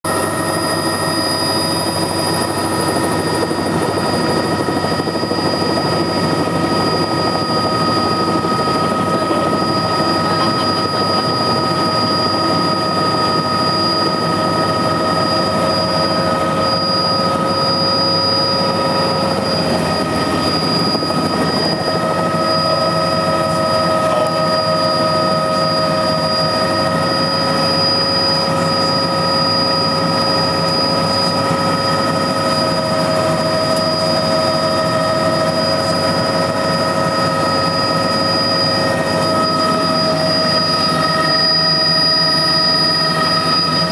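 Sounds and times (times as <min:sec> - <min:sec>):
helicopter engine and rotor rumble: 0:00.0 - 0:43.9
steady whining tones: 0:00.1 - 0:43.9.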